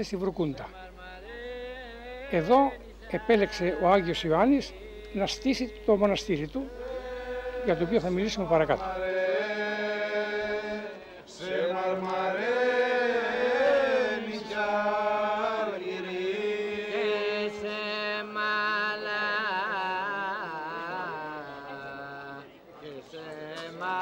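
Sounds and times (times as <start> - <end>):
person chanting a slow melody: 0.0 - 24.0.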